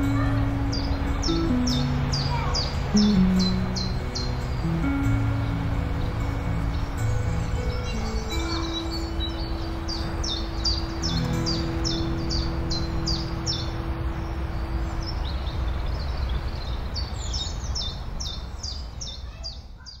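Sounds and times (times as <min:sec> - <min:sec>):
held low music note: 0:00.0 - 0:17.6
sea waves: 0:00.0 - 0:19.7
birds chirping: 0:00.0 - 0:20.0
wind: 0:00.0 - 0:20.0.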